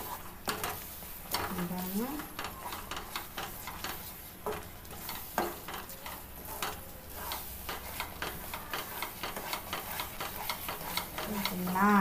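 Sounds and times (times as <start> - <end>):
hot fat sizzling: 0.0 - 12.0
wooden spoon scraping pan: 0.0 - 12.0
spoon knocking on pan: 2.2 - 11.9.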